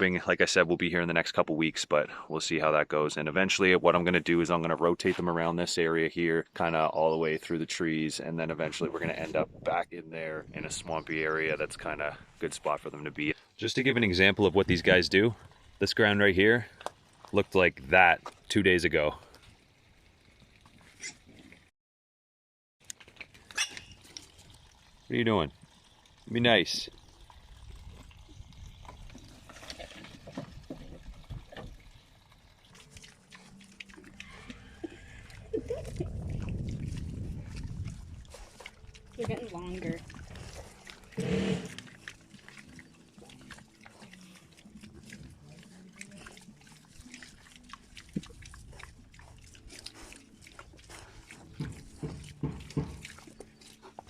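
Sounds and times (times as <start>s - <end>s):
pigs rooting in dirt: 3.4s - 21.7s, 22.8s - 54.0s.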